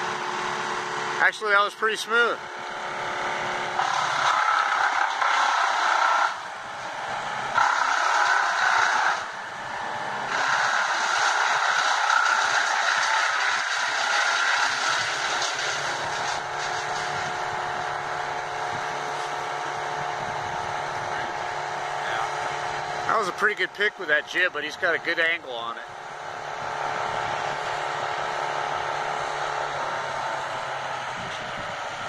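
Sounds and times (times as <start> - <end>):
crane engine and hydraulics: 0.0 - 32.0.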